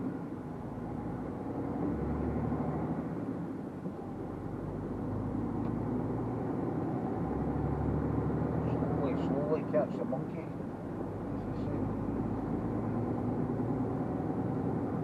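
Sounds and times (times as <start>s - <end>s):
truck diesel engine driving: 0.0s - 15.0s.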